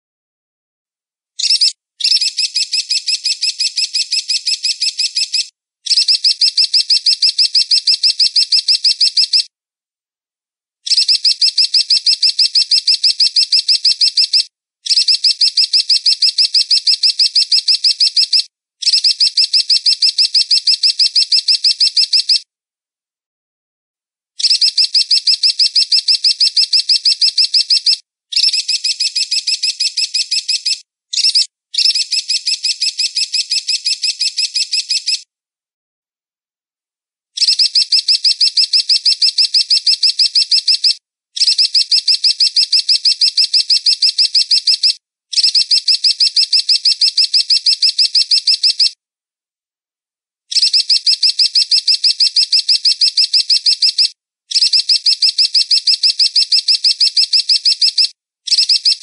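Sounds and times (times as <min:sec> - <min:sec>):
eagle chirping: 0:01.4 - 0:09.5, 0:10.9 - 0:22.4, 0:24.4 - 0:35.2, 0:37.4 - 0:48.9, 0:50.5 - 0:59.0.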